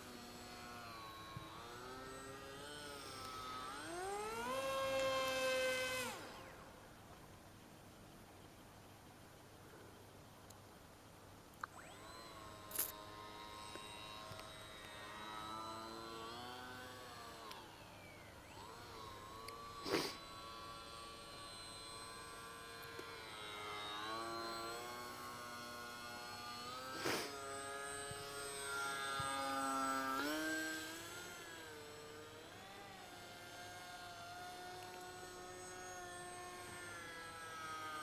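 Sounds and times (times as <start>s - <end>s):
model plane motor whining: 0.0s - 7.1s, 11.6s - 38.0s.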